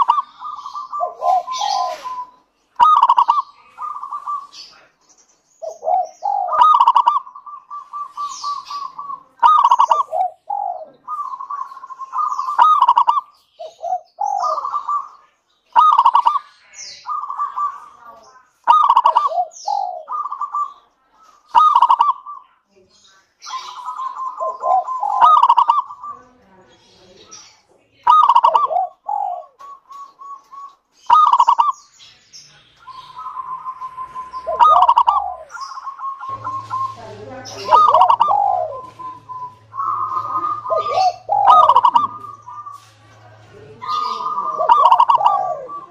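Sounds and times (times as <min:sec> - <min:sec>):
dove cooing: 0:00.0 - 0:04.9, 0:05.6 - 0:15.2, 0:15.8 - 0:16.4, 0:17.0 - 0:22.4, 0:23.5 - 0:26.5, 0:28.0 - 0:31.8, 0:32.8 - 0:45.9.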